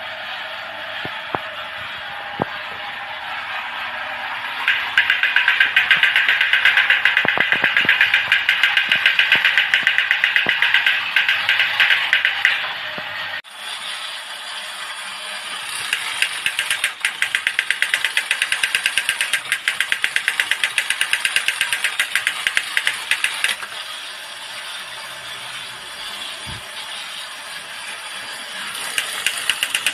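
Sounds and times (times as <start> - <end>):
small electric motor whirring: 1.0 - 29.9
clatter of gears and tin: 3.3 - 29.9.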